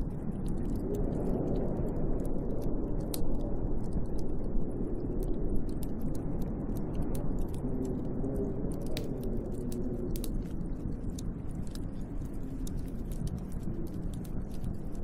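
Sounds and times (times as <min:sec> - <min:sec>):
small sharp ticks and crackles: 0:00.0 - 0:15.0
wind blowing: 0:00.0 - 0:15.0.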